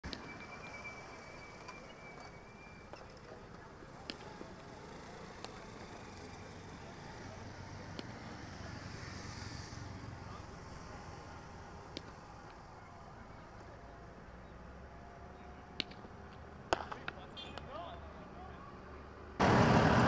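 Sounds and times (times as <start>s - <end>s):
distant traffic hum: 0.0s - 20.0s.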